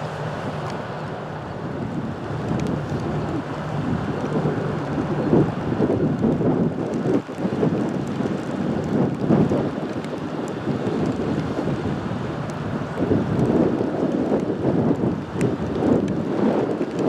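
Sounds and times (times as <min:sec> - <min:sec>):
rain: 0:00.0 - 0:17.0
wind buffeting microphone: 0:00.0 - 0:17.0.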